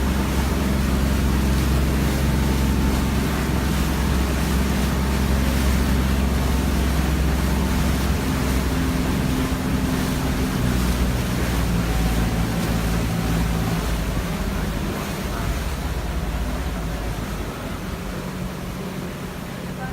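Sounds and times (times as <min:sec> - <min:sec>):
boat engine running: 0:00.0 - 0:19.9
water rushing: 0:00.0 - 0:19.9.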